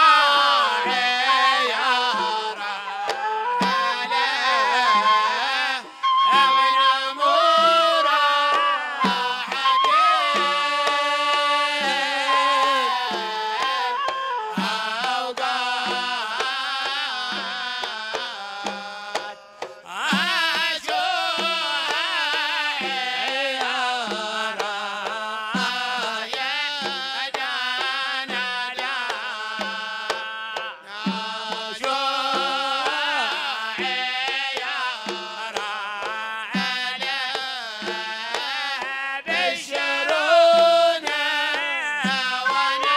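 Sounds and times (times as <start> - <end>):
hand drums beating: 0.0 - 42.9
man singing: 0.0 - 42.9.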